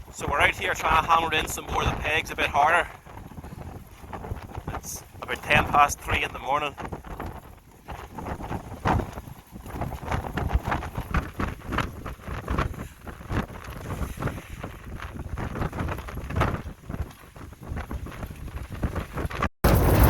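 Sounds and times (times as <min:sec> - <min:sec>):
wind gusting on microphone: 0:00.0 - 0:20.0.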